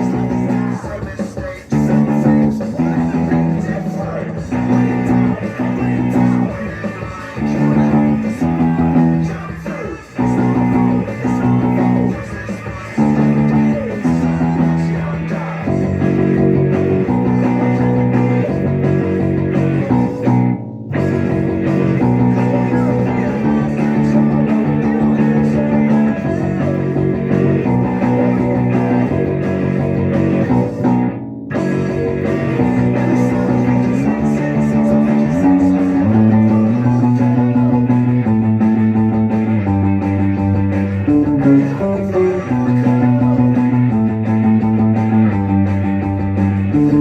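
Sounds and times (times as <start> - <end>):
guitar and bass music: 0.0 - 47.0.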